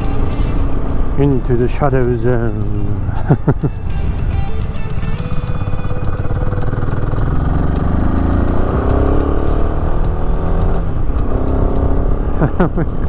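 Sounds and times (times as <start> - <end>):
motorcycle engine climbing hill: 0.0 - 13.0.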